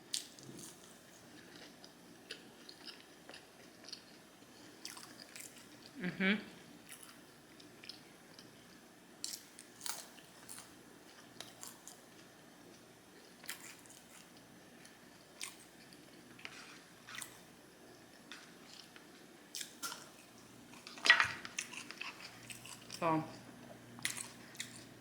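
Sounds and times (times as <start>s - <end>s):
person chewing food: 0.1s - 6.0s, 6.8s - 25.0s.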